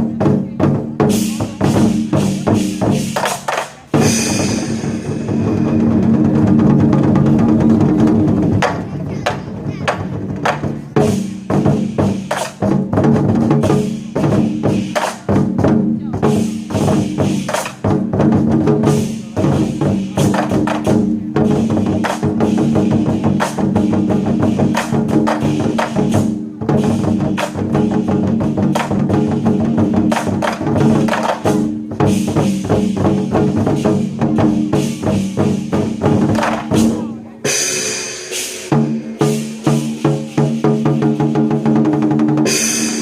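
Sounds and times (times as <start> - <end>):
war drums beaten fast: 0.0 - 43.0.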